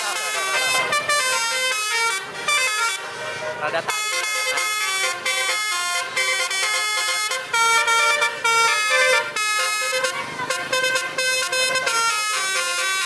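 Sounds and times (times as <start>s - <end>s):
musical air horn playing a tune: 0.0s - 13.0s.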